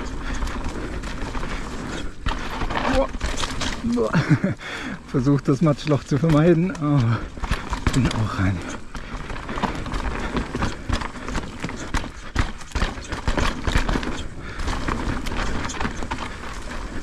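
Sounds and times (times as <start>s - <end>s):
bike knocks and rattles: 0.0s - 4.6s, 5.6s - 17.0s
bike tyres rumbling on dirt: 0.0s - 17.0s.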